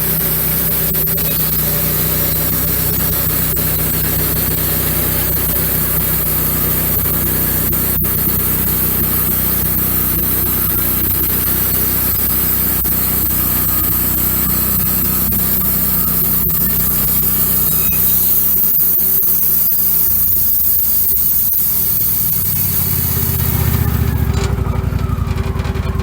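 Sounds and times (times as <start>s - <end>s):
bandsaw sawing log: 0.0s - 24.3s.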